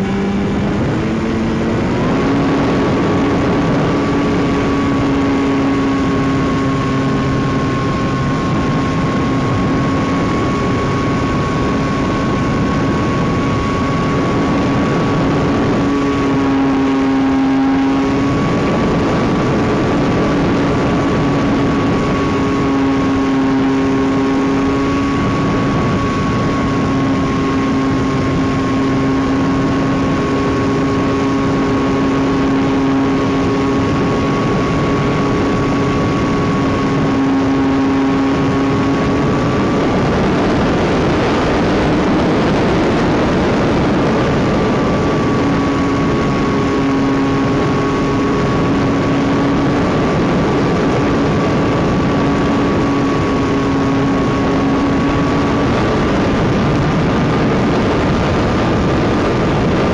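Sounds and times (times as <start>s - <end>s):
model airplane motor and propeller: 0.0s - 59.9s.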